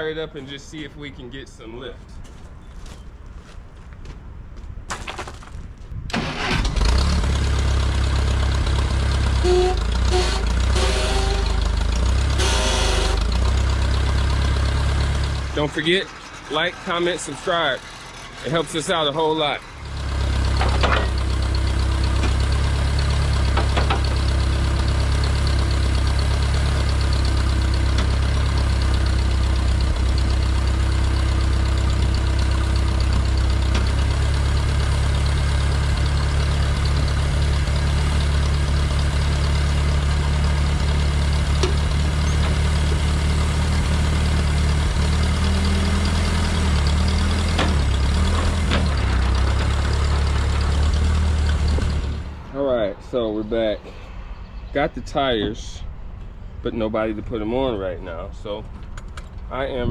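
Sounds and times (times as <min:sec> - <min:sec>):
tractor engine idling: 0:06.1 - 0:56.4.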